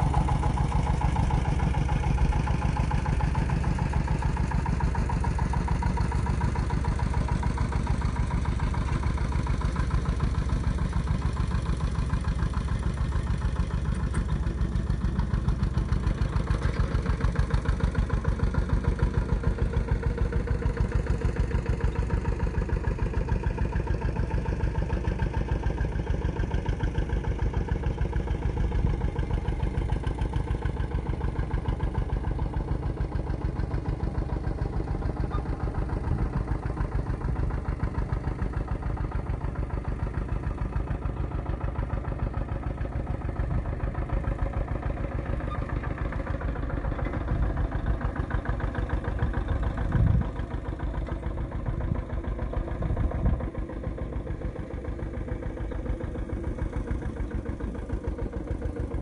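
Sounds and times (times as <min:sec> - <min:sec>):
diesel engine chugging: 0:00.0 - 0:59.0.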